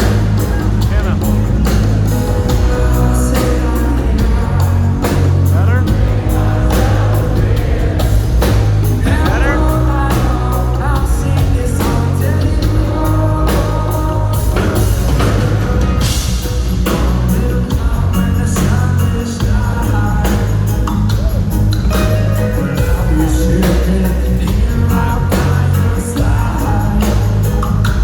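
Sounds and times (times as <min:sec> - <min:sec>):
drum beat: 0:00.0 - 0:28.0
heavy bass: 0:00.0 - 0:28.0
live reggae band playing: 0:00.0 - 0:28.0
person singing: 0:02.3 - 0:15.6, 0:16.4 - 0:28.0.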